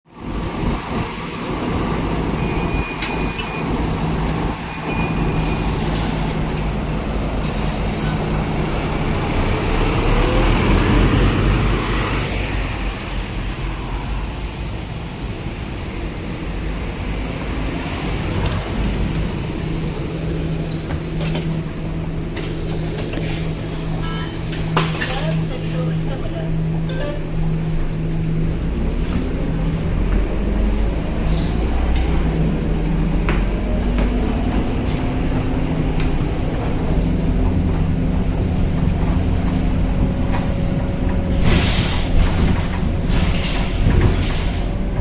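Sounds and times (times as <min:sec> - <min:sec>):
bus diesel engine rumbling: 0:00.1 - 0:45.0.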